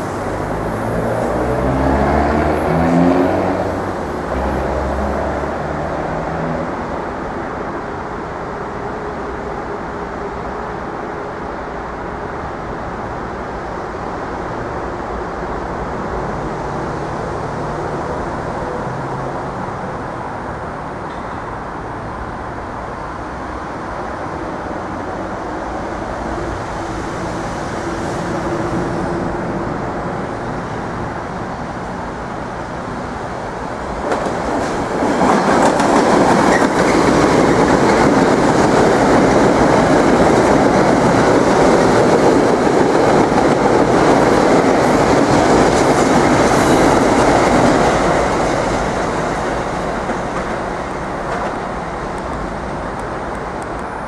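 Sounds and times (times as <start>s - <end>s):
commuter train passing: 0.0s - 54.0s.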